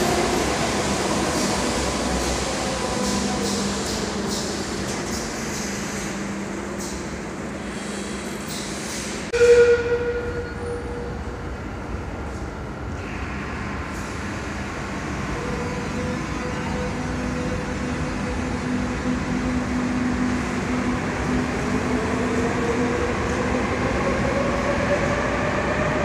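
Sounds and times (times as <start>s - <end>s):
rising train whine: 0.0s - 26.0s
train rumbling: 0.0s - 26.0s.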